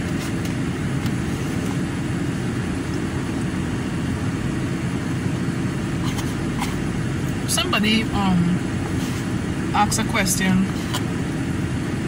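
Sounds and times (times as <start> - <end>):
car air conditioning blowing: 0.0 - 12.0
car engine hum: 0.0 - 12.0.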